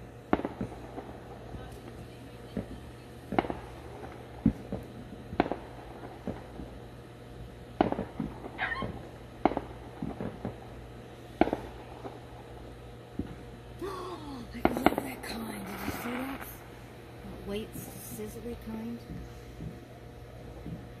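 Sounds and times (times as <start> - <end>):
distant firework bangs: 0.0 - 13.8, 14.5 - 21.0
firework crackle: 0.0 - 21.0.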